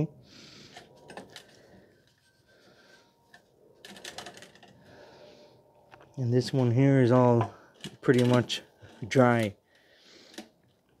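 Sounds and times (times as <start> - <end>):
handling clicks and rustling: 0.7 - 4.9, 5.8 - 11.0.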